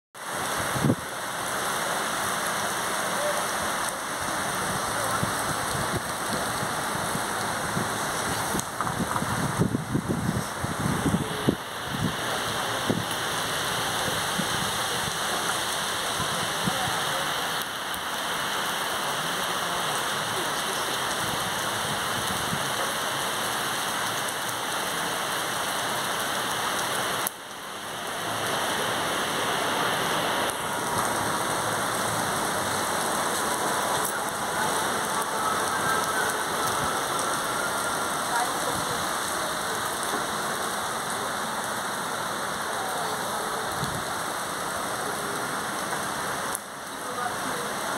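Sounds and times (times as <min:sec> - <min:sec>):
rain on paving and cars: 0:00.2 - 0:47.9.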